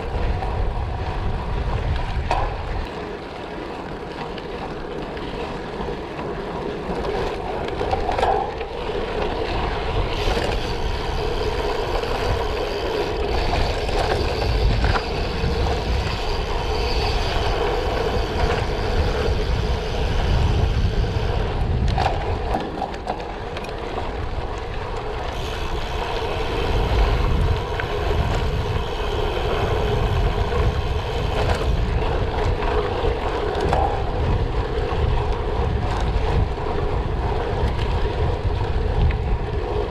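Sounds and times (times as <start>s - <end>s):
bike tyres crunching over gravel: 0.0s - 39.9s
wind buffeting microphone: 0.0s - 39.9s.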